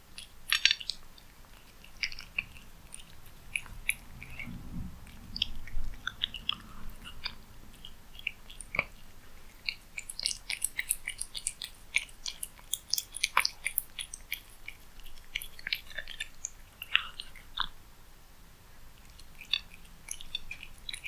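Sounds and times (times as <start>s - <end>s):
cat chewing: 0.0s - 17.8s, 18.8s - 21.0s.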